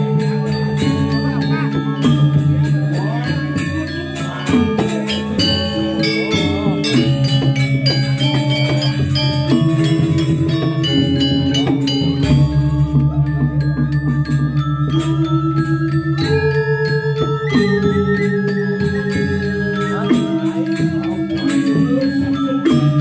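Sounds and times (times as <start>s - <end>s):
metallophones ringing: 0.0s - 23.0s
sharp percussion strokes: 0.0s - 23.0s.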